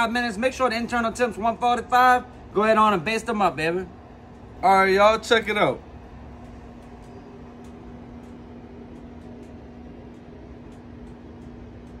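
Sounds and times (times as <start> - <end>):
low hum: 0.2 - 12.0.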